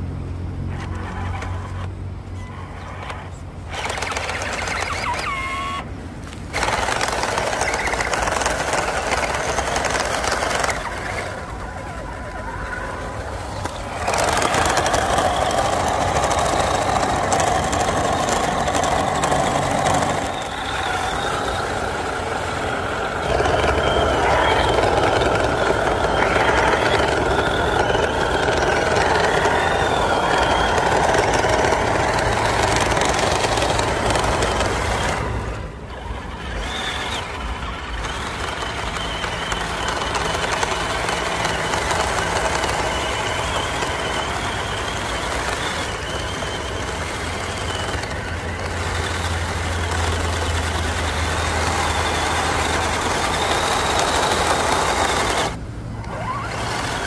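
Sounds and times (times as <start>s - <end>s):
electric motor whining: 0.6s - 57.0s.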